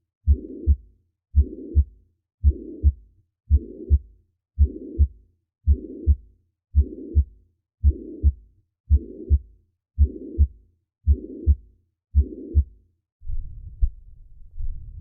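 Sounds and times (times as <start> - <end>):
heartbeat thumps: 0.3 - 0.8, 1.4 - 15.0.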